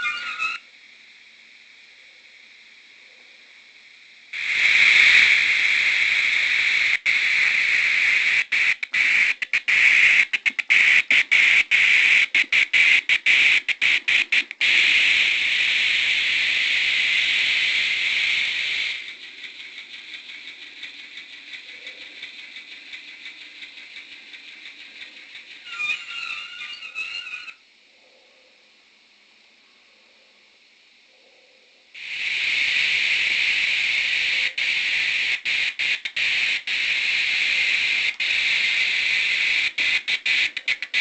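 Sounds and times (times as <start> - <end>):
loud high hiss from small speaker: 0.0 - 41.0.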